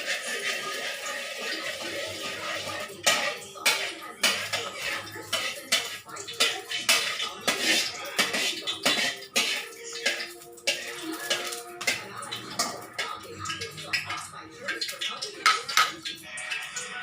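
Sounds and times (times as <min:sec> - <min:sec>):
kitchen utensils clattering: 0:00.0 - 0:17.0.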